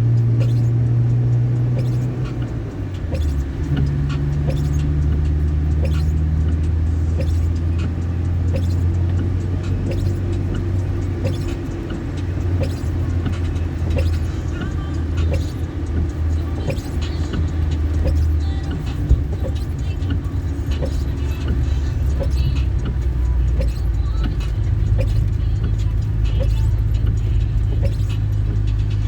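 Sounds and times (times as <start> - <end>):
car engine humming: 0.0 - 29.0
light ticking: 0.0 - 29.0
road noise: 0.0 - 29.0.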